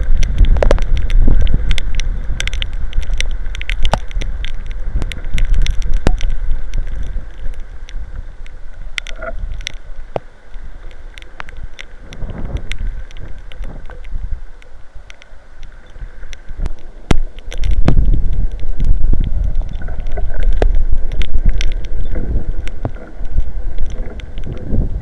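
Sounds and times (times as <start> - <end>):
gusty wind buffeting microphone: 0.0 - 10.1, 11.7 - 14.5, 15.8 - 25.0
rain ticking on microphone: 0.0 - 25.0.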